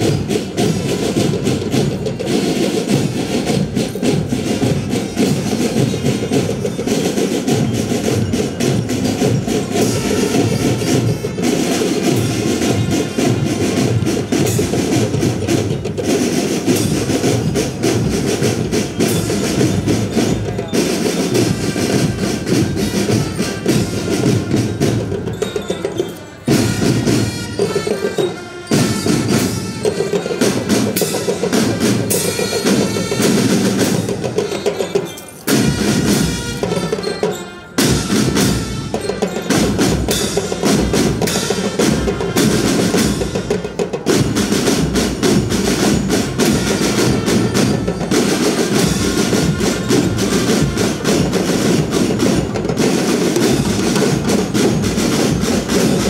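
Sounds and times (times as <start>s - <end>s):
marching band brass: 0.0s - 56.0s
marching snare and bass drums: 0.0s - 56.0s.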